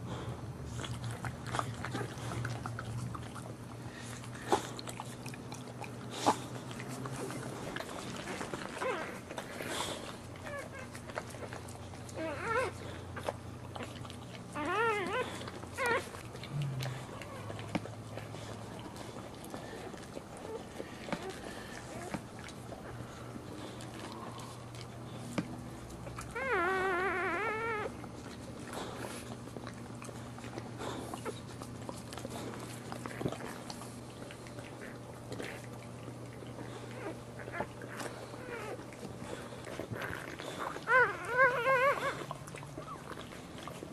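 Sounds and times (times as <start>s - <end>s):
steady low hum: 0.0s - 43.9s
dog whimpering: 0.7s - 5.4s, 6.2s - 43.9s.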